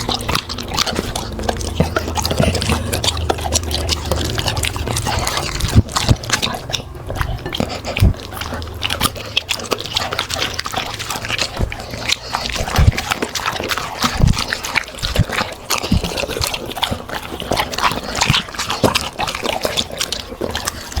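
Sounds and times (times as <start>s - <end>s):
dogs crunching food: 0.0s - 21.0s.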